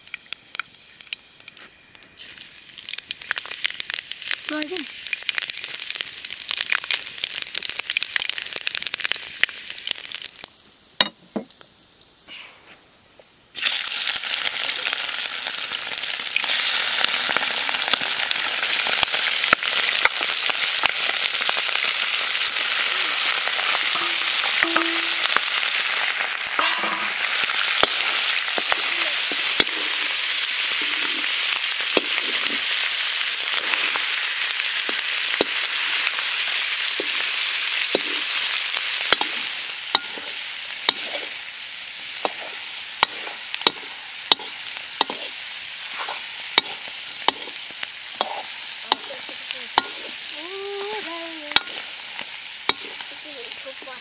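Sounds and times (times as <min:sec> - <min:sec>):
food sizzling in oil: 0:00.0 - 0:12.2, 0:13.5 - 0:54.0.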